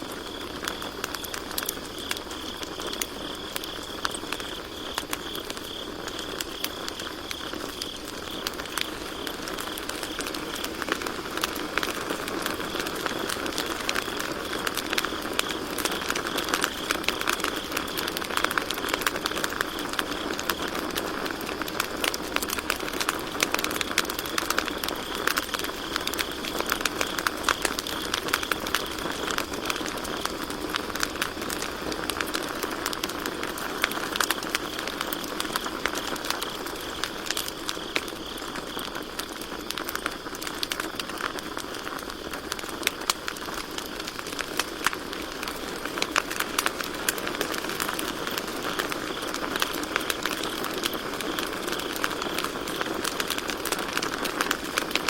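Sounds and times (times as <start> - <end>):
campfire crackling and popping: 0.0 - 55.0
crickets chirping: 0.0 - 55.0.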